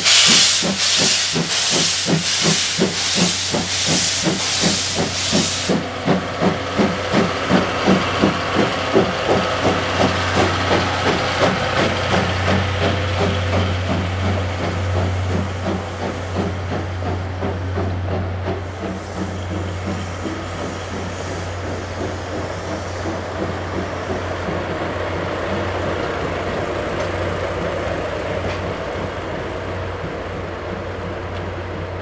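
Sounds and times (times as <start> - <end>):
diesel locomotive drone: 0.0 - 32.0
train wheels clicking over rail joints: 0.0 - 32.0.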